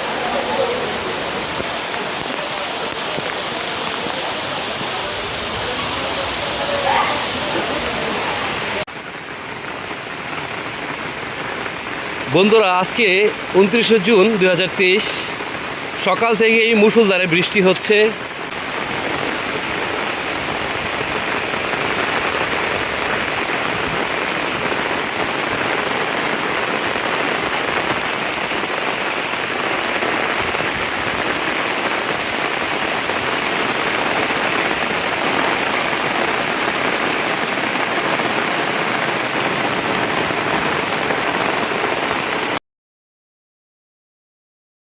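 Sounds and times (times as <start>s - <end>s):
heavy rain pouring: 0.0s - 42.6s.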